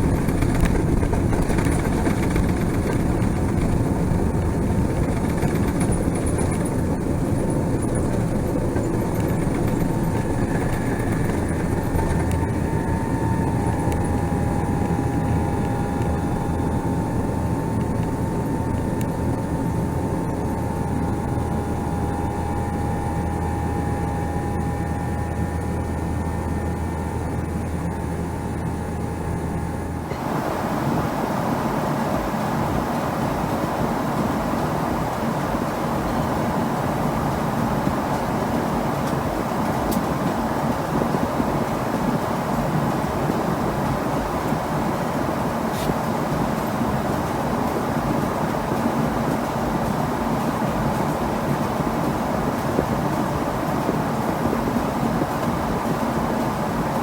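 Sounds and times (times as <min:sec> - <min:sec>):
airplane cabin rumble and hiss: 0:00.0 - 0:57.0
steady whine: 0:00.0 - 0:57.0.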